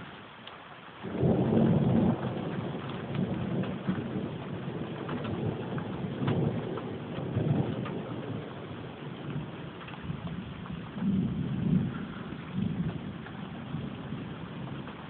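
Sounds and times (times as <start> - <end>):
steady rain: 0.0 - 15.0
thunder rumbling: 1.0 - 15.0.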